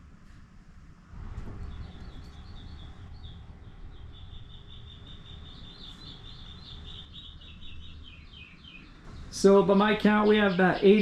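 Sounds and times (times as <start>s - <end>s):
low steady rumble: 0.0s - 11.0s
songbird chirping and trilling: 1.2s - 11.0s.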